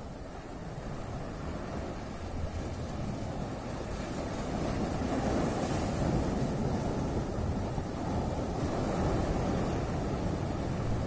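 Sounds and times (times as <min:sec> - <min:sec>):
waves breaking on rocks: 0:00.0 - 0:11.0
wind buffeting microphone: 0:00.0 - 0:11.0.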